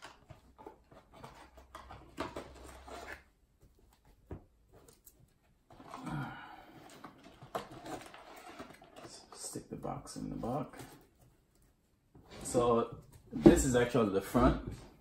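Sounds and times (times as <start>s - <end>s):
cardboard and cards rustling: 0.0s - 14.0s.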